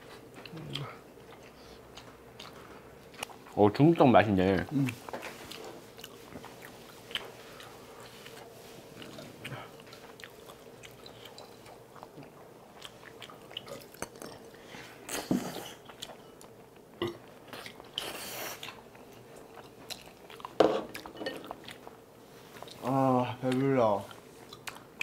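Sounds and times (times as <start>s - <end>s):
person chewing: 0.1s - 3.6s, 4.6s - 22.9s, 23.5s - 25.0s.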